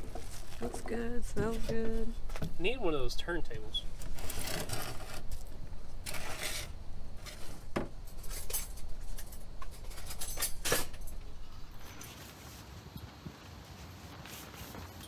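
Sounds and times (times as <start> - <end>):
low steady hum: 0.0 - 13.6.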